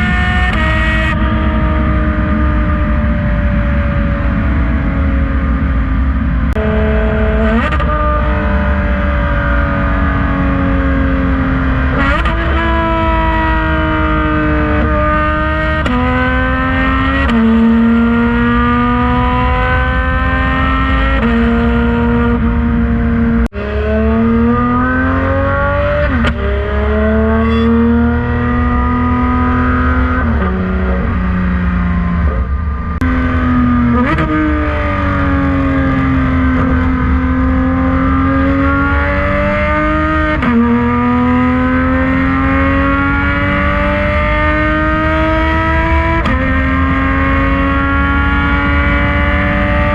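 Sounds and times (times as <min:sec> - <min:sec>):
sports car engine accelerating: 0:00.0 - 0:49.9.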